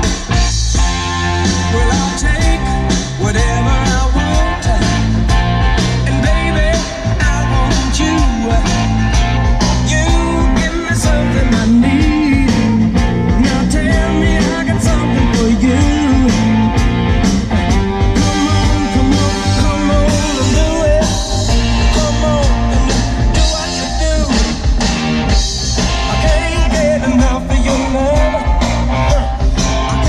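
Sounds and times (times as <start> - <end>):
loud music with heavy bass: 0.0 - 30.0.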